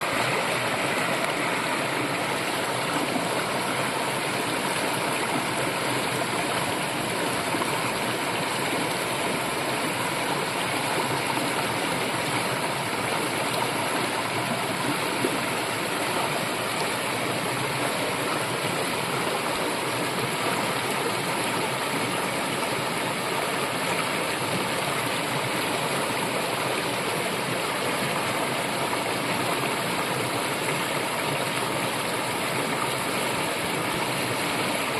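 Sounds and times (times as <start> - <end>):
brook flowing: 0.0 - 34.9.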